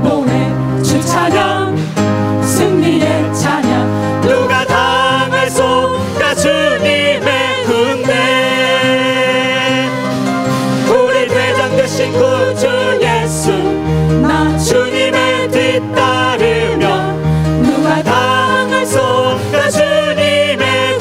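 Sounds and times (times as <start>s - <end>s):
group singing praise song: 0.0s - 1.9s, 2.5s - 21.0s
amplified instrumental accompaniment: 0.0s - 21.0s.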